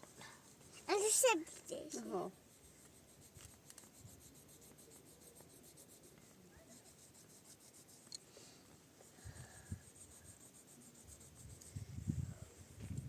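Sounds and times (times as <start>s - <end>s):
faint scratchy background noise: 0.0s - 13.0s.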